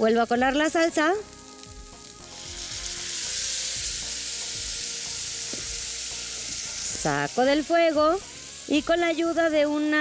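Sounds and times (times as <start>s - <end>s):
sauce sizzling in hot pan: 0.0s - 10.0s.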